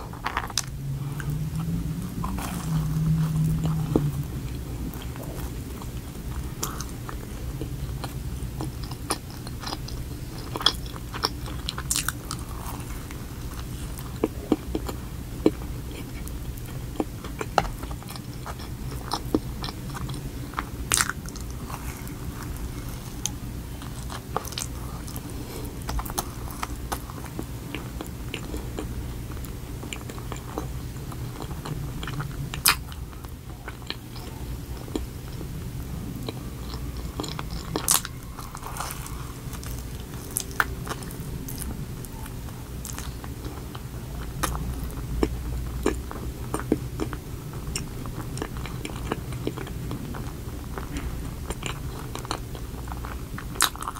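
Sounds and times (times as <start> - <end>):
chewing and biting donut: 0.0 - 53.9
steady low hum: 0.0 - 53.9.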